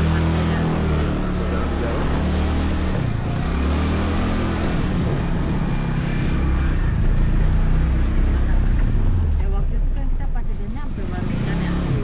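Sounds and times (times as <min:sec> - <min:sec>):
road and wind noise: 0:00.0 - 0:12.0
scooter engine running: 0:00.0 - 0:12.0.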